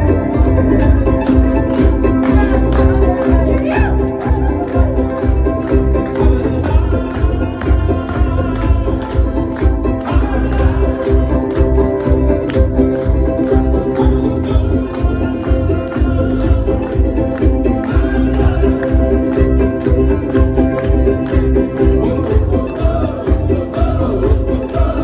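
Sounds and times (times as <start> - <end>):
live music with pulsing beat: 0.0 - 25.0.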